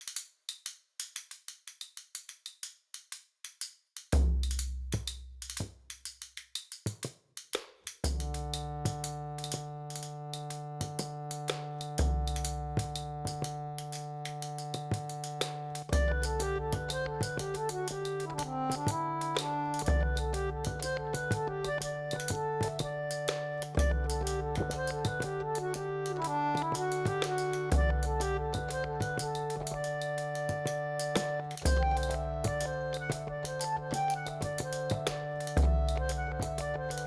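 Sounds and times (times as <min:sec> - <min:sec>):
fast ticking percussion: 0:01.1 - 0:37.0.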